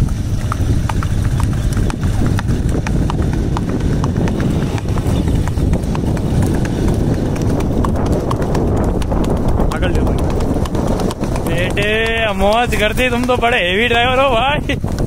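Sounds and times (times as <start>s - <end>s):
horse hooves clip-clopping on pavement: 0.0s - 15.0s
steady low rumble: 0.0s - 15.0s.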